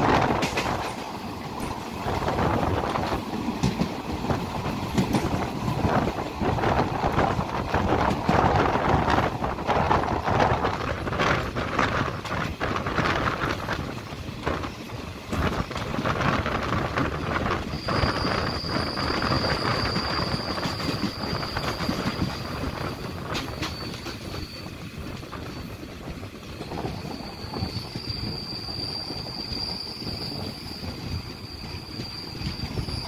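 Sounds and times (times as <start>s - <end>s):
rail clacks: 0.0s - 33.0s
train wheels rumbling: 0.0s - 33.0s.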